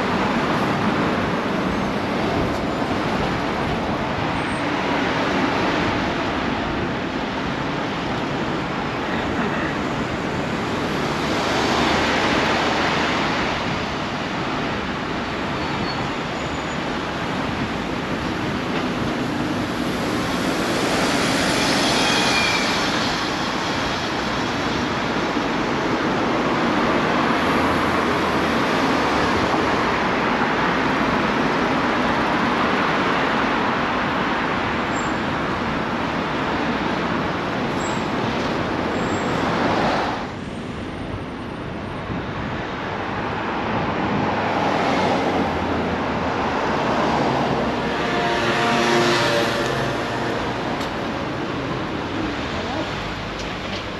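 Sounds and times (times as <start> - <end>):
city traffic noise: 0.0 - 53.9.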